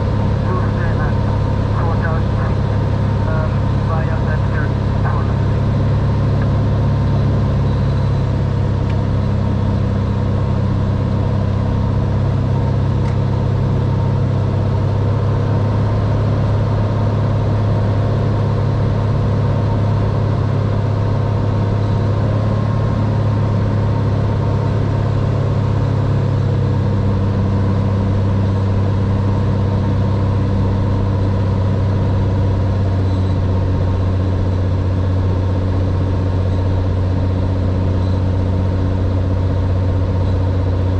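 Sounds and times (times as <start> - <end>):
airplane engine droning in cockpit: 0.0 - 40.9.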